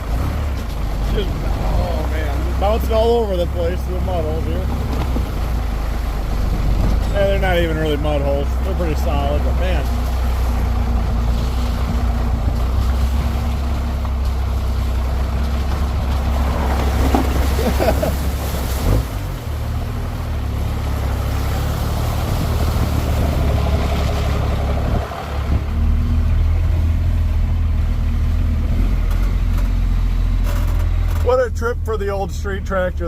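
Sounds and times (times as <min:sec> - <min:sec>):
truck engine droning: 0:00.0 - 0:33.0.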